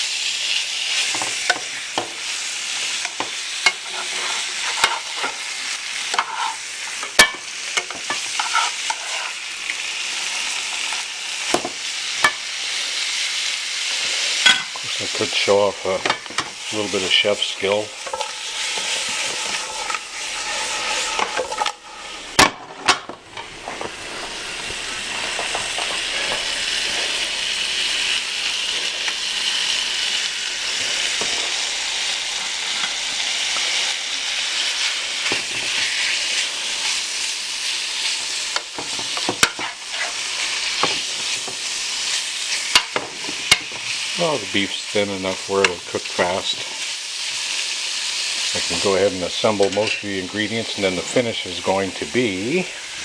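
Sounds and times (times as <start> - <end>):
meat sizzling in a pan: 0.0 - 53.0.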